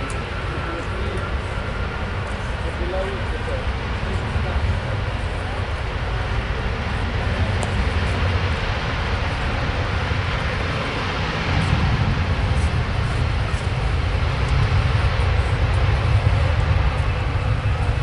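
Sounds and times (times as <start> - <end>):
jet engine rumble: 0.0 - 18.0.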